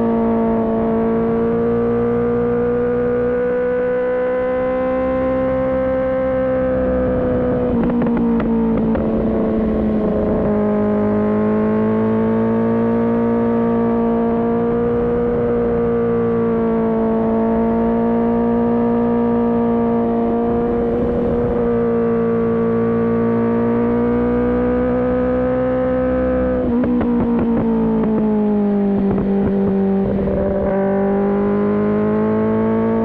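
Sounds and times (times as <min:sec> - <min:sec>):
motorcycle engine at high revs: 0:00.0 - 0:33.0.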